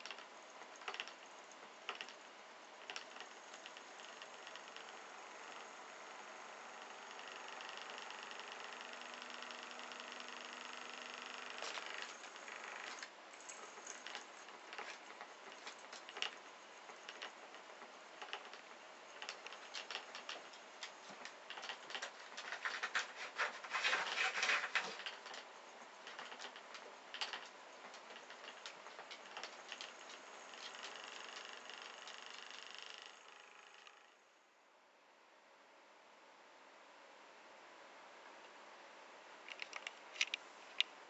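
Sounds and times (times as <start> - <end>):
cat paws tapping and scratching: 0.0 - 33.3.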